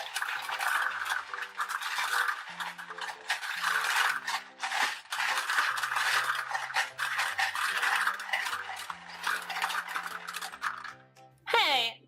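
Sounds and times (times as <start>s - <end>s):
gumballs clattering: 0.0s - 11.2s.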